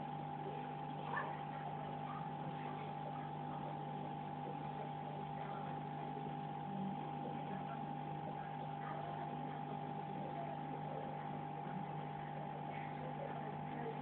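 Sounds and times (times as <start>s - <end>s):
aquarium filter pump humming: 0.0s - 14.0s.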